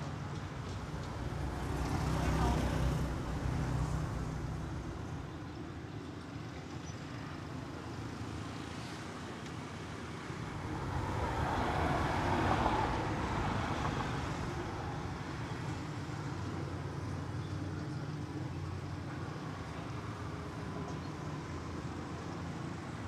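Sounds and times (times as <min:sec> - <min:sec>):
traffic rumble and hiss: 0:00.0 - 0:23.0.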